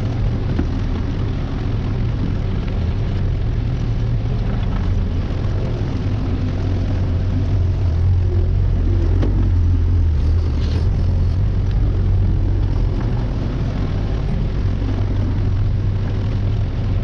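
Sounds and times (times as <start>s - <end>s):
heavy equipment engine droning: 0.0s - 17.0s.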